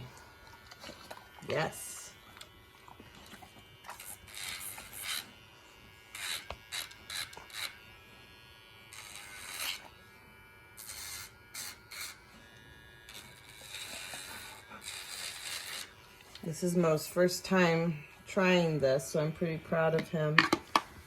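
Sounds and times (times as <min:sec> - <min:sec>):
grinding on toenail: 0:00.0 - 0:21.0
nail grinder buzzing: 0:00.0 - 0:21.0.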